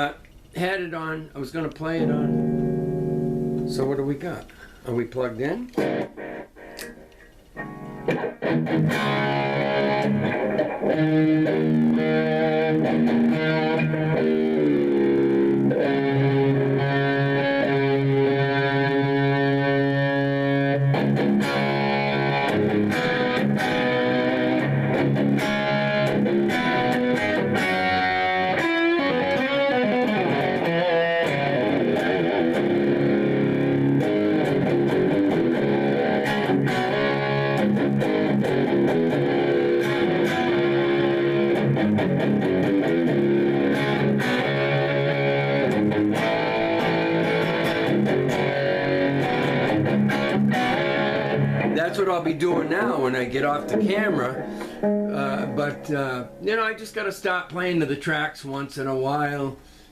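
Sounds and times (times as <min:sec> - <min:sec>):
overdriven electric guitar: 0:01.9 - 0:03.9, 0:05.7 - 0:56.5.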